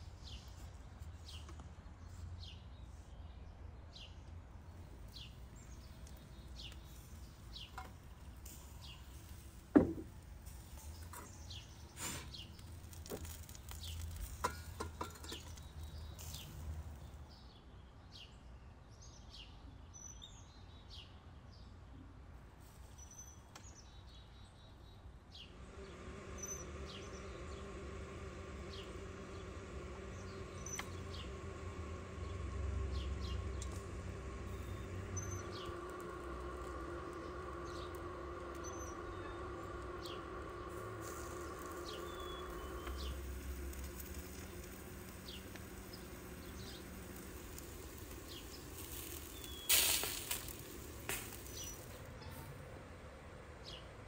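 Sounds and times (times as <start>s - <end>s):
small birds chirping: 0.0s - 21.2s, 22.6s - 54.0s.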